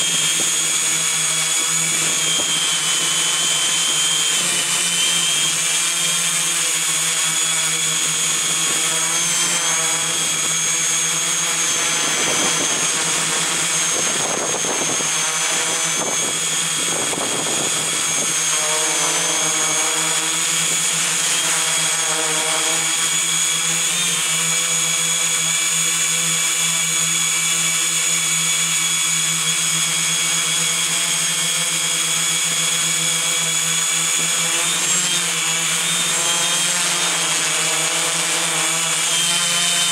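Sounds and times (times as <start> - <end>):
drone motors humming: 0.0 - 39.9.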